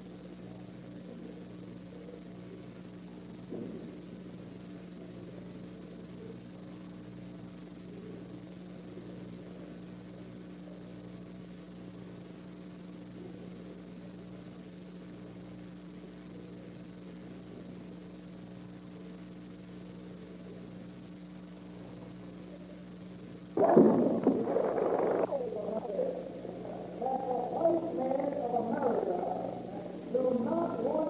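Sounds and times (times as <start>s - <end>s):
film soundtrack hiss and hum: 0.0s - 31.0s.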